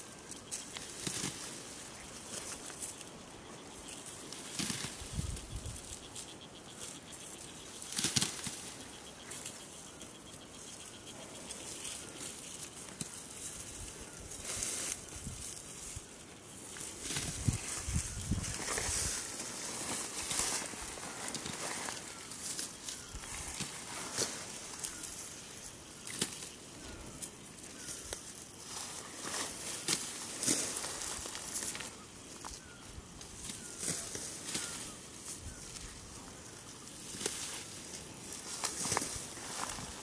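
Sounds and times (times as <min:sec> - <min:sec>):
dry wheat stalks rustling: 0:00.0 - 0:40.0.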